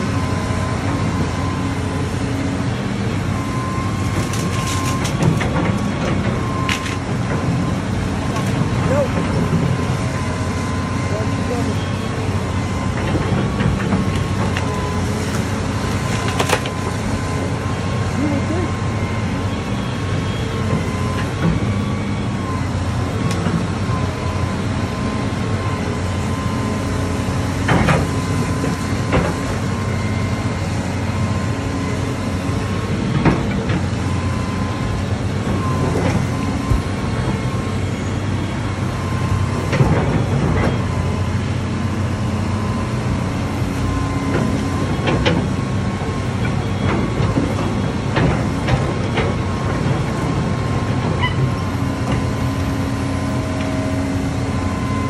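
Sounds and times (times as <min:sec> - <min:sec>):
excavator engine and hydraulics: 0:00.0 - 0:55.0.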